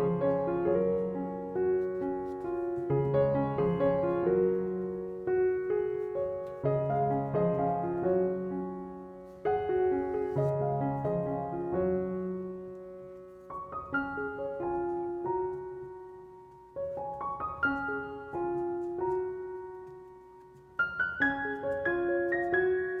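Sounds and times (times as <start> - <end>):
slow solo piano: 0.0 - 23.0.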